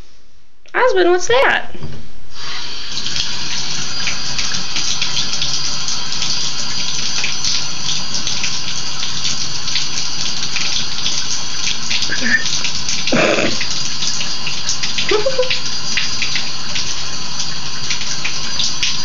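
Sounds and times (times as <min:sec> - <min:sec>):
water pouring into bathtub: 0:02.4 - 0:19.0.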